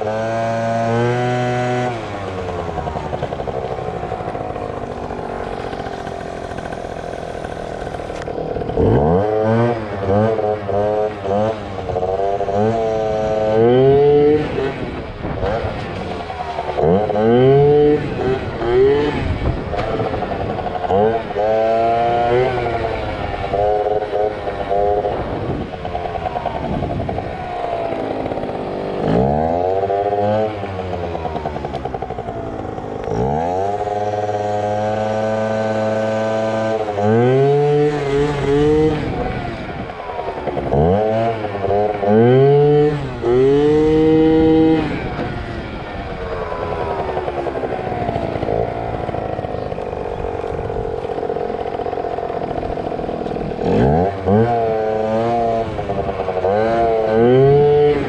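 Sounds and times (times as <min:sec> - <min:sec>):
scooter engine revving: 0:00.0 - 0:58.0.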